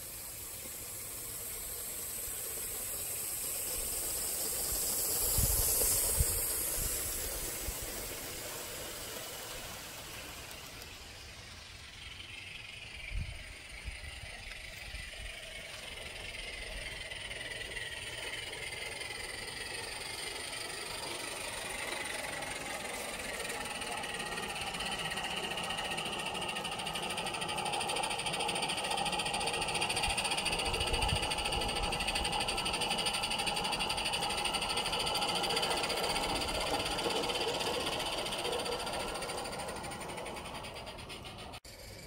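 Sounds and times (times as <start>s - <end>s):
steam locomotive running past: 0.0s - 42.0s
wheels on rails: 0.0s - 42.0s.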